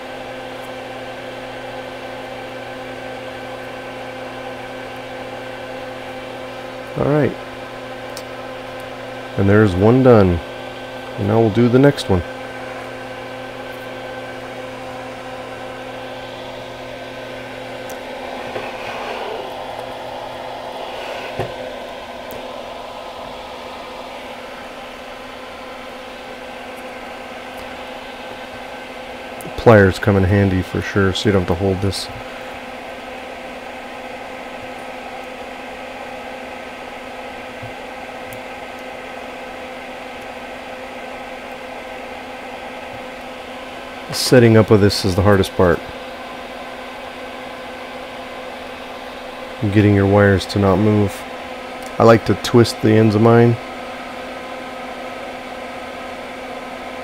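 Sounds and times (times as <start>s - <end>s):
extractor fan humming: 0.0s - 57.0s.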